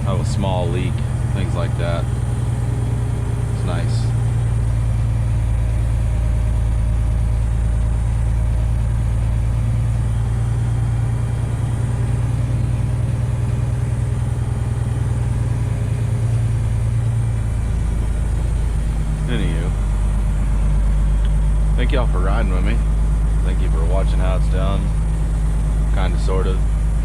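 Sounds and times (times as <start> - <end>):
truck diesel engine droning: 0.0 - 27.0.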